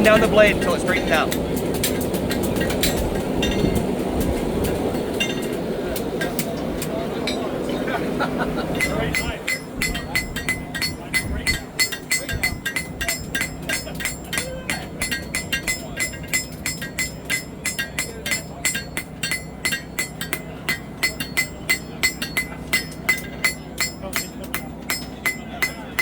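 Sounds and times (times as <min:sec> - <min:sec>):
hammer striking blade on anvil: 0:00.0 - 0:03.8, 0:08.8 - 0:26.0.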